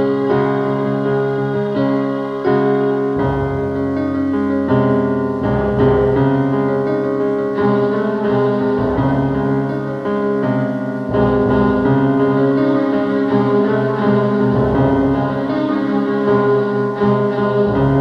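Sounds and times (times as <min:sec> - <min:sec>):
synthesizer chords: 0:00.0 - 0:18.0.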